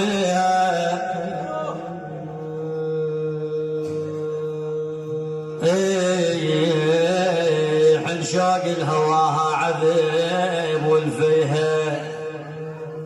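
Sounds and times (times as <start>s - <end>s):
man chanting: 0.0s - 13.0s
sung chant line: 0.0s - 13.0s.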